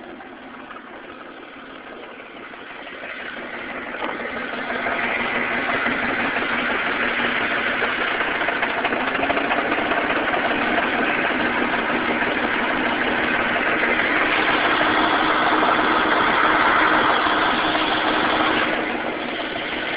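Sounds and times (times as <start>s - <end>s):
car engine misfiring: 0.0s - 19.9s.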